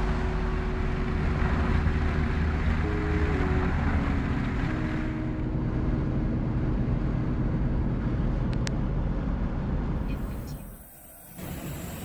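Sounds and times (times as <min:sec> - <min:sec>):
truck engine hum: 0:00.0 - 0:12.0.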